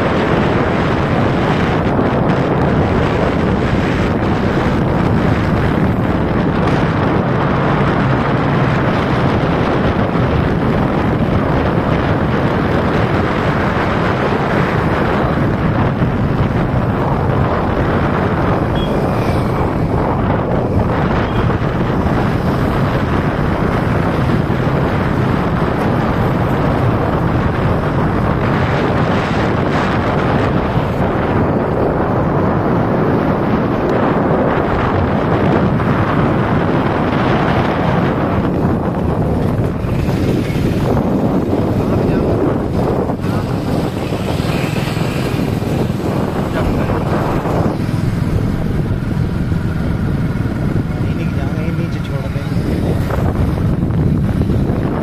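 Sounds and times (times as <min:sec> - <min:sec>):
passing traffic: 0:00.0 - 0:55.0
vehicle running and road noise: 0:00.0 - 0:55.0
wind rushing on microphone: 0:00.0 - 0:55.0.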